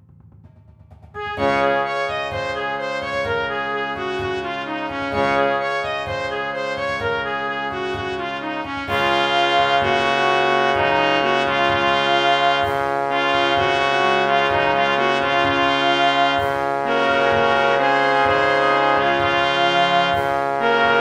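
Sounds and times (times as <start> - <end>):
brass section playing: 1.2 - 21.0.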